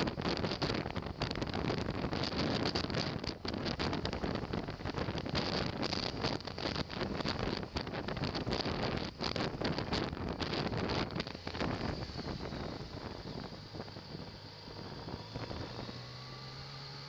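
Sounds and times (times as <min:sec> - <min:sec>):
motorcycle engine hum: 0:00.0 - 0:17.0
wind buffeting microphone: 0:00.0 - 0:17.0.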